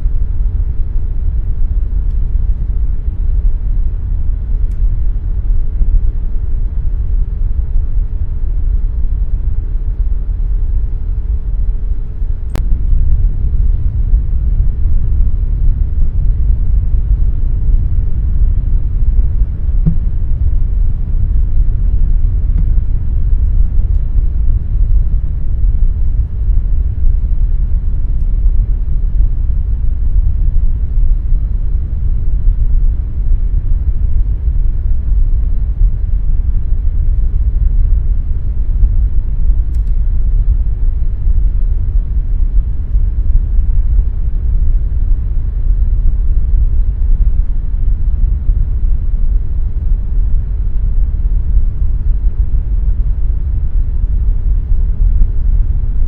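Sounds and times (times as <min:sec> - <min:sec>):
air conditioner rumbling: 0:00.0 - 0:56.0.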